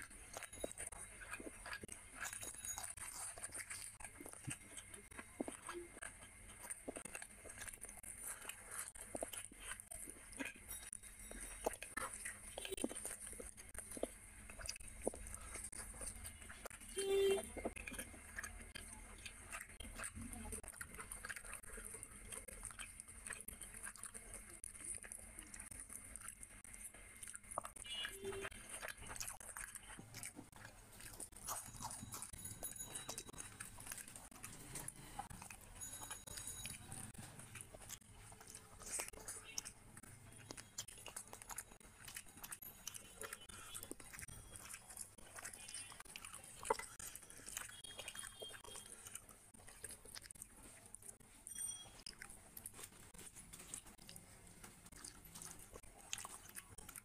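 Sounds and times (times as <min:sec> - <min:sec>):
close chewing and mouth smacks: 0:00.0 - 0:57.0.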